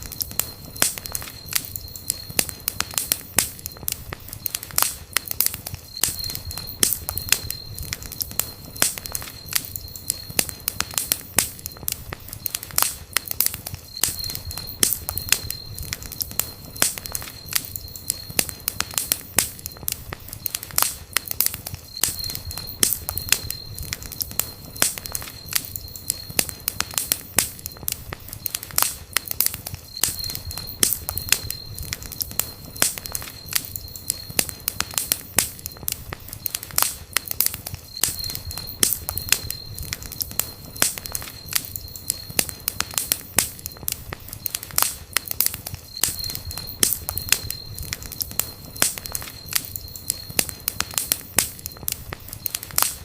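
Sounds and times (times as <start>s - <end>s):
campfire crackling and popping: 0.0s - 53.0s
low rumble of flames: 0.0s - 53.0s.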